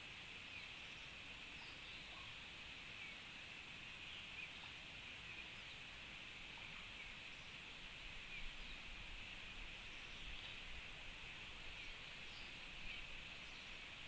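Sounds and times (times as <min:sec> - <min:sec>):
steady outdoor hiss: 0:00.0 - 0:14.0
faint bird chirps: 0:00.2 - 0:14.0.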